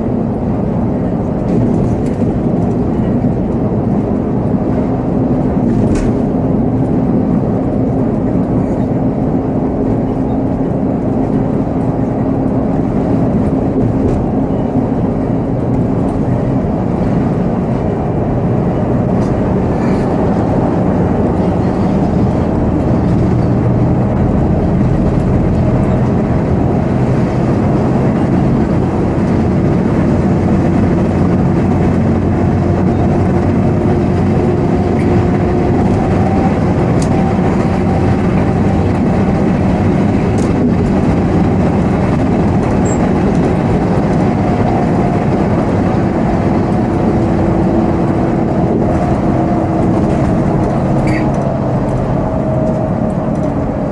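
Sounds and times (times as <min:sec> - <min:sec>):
coach diesel engine running: 0:00.0 - 0:53.9
road rumble noise: 0:00.0 - 0:53.9.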